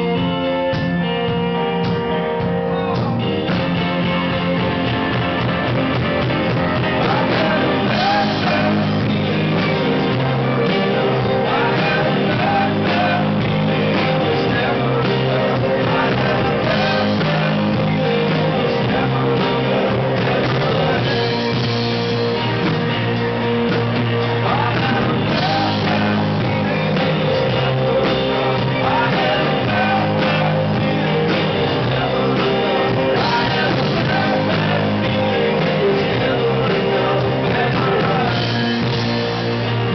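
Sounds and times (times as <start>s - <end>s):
rock band playing live: 0.0s - 39.9s
person singing: 2.6s - 39.9s.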